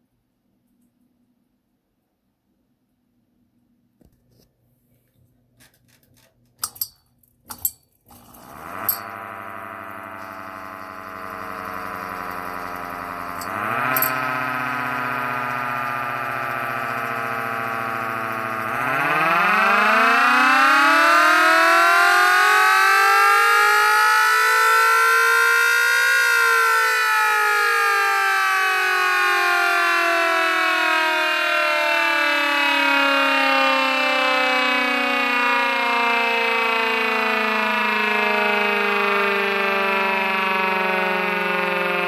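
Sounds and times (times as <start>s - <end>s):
mechanical siren wailing: 7.6s - 42.0s.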